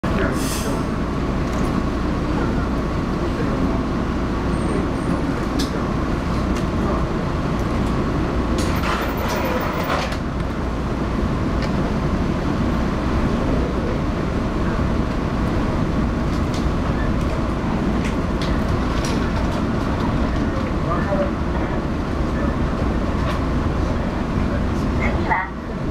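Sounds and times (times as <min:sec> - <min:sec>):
train rumbling on rails: 0:00.0 - 0:25.9.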